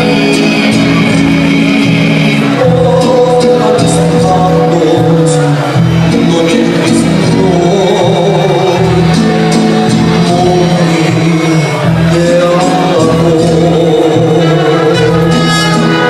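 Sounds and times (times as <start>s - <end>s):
mariachi band playing: 0.0s - 16.0s
person singing: 0.0s - 16.0s.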